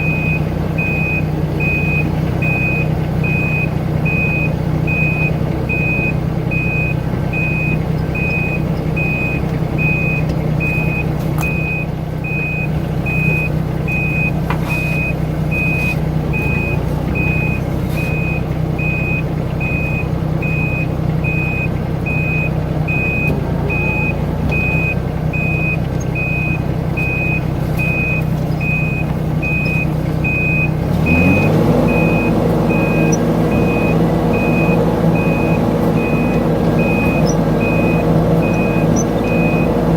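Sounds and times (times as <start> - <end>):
high-pitched travel alarm beeping: 0.0 - 39.8
diesel engine running: 0.0 - 39.9.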